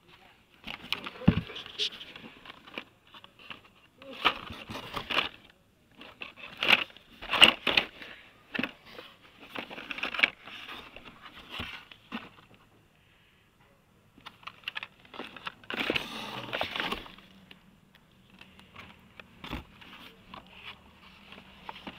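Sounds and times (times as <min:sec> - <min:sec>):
plastic blister packs clacking: 0:02.4 - 0:12.6, 0:14.2 - 0:21.9.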